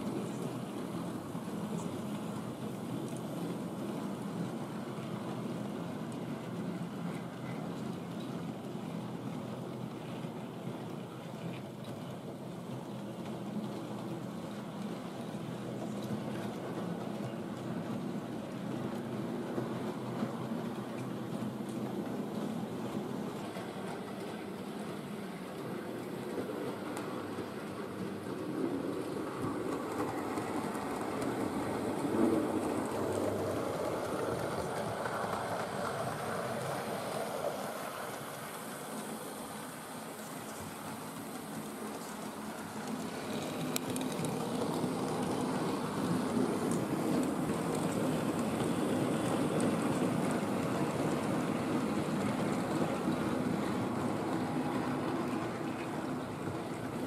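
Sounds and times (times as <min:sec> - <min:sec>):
wheels rattling over rails: 0:00.0 - 0:57.0.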